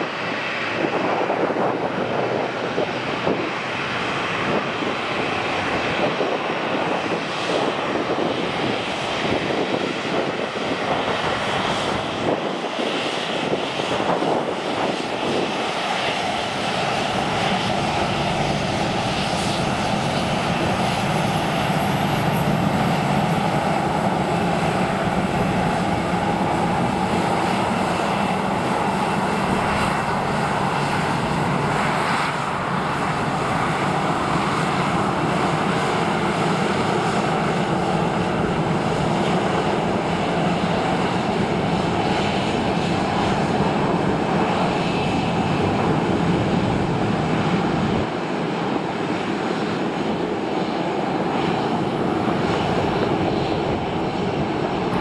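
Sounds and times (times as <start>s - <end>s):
high jet whine: 0.0s - 55.0s
jet engine roar: 0.0s - 55.0s.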